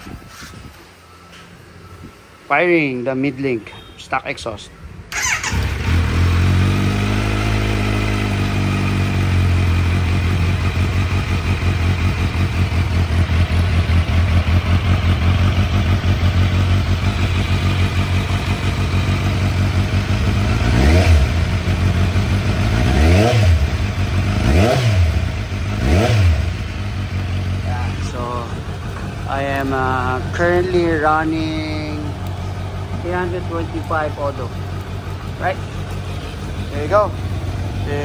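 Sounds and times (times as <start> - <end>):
motorcycle engine idling: 4.7 - 38.0
motorcycle throttle blips: 5.1 - 38.0.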